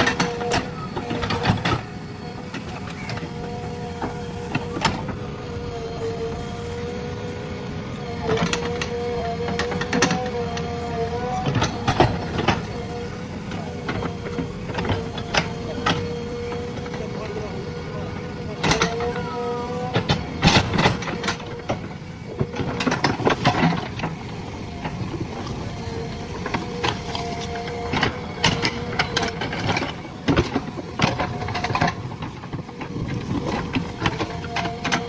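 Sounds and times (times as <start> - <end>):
backhoe loader engine whining: 0.0 - 35.0.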